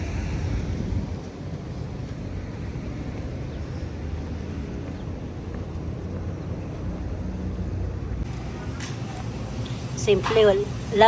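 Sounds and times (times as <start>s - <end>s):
low rumble of background noise: 0.0s - 11.0s.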